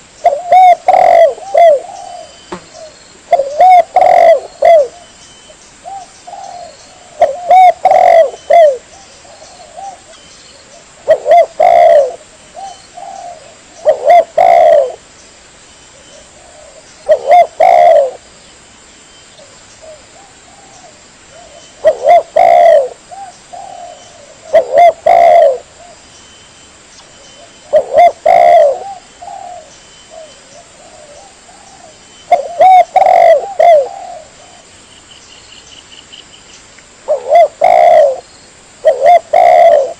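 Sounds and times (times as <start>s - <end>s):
dove cooing: 0.0s - 5.2s, 5.8s - 15.0s, 15.9s - 18.3s, 19.4s - 26.0s, 27.4s - 34.7s, 37.0s - 38.2s, 38.8s - 39.9s.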